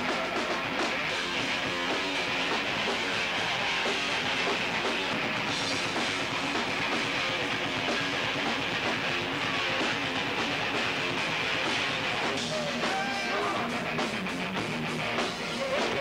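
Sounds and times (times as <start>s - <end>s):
drum kit: 0.0s - 16.0s
electric guitar: 0.0s - 16.0s
rock band playing live: 0.0s - 16.0s.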